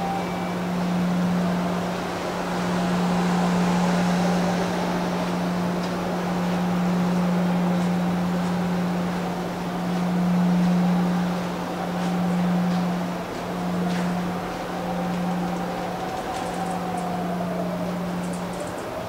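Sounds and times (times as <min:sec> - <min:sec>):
ship engines humming: 0:00.0 - 0:19.0
ventilation noise rushing: 0:00.0 - 0:19.0.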